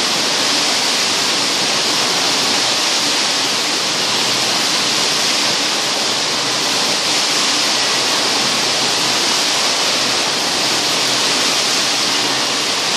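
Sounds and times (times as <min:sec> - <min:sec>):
industrial machinery hissing: 0:00.0 - 0:12.9.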